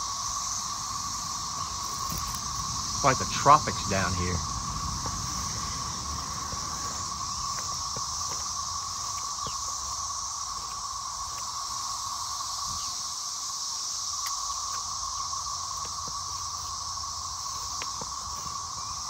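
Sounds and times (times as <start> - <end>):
cicada chorus drone: 0.0 - 19.0.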